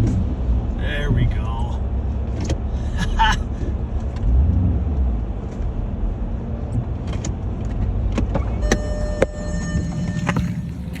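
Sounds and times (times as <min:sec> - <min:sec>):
engine rumbling under load: 0:00.0 - 0:11.0.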